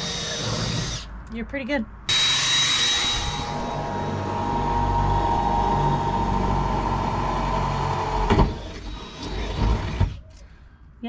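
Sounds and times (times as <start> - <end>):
power drill whirring: 0.0 - 1.1, 2.1 - 10.2.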